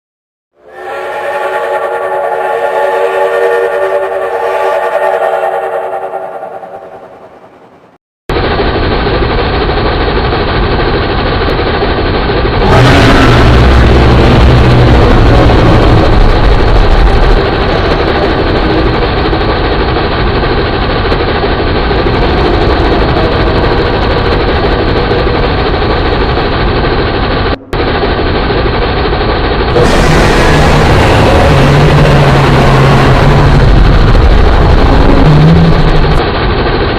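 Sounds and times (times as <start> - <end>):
heavy low rumble: 0.6 - 36.9
mechanical engine drone: 0.6 - 36.9.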